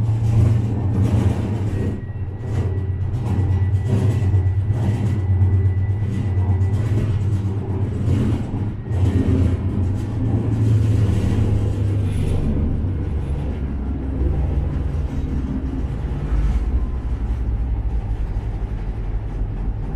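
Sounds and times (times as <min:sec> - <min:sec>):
tram interior rumble and hum: 0:00.0 - 0:19.9.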